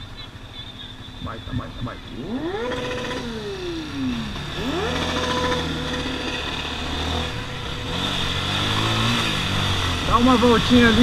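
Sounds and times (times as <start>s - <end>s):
motorcycle engine revving: 1.0s - 11.0s.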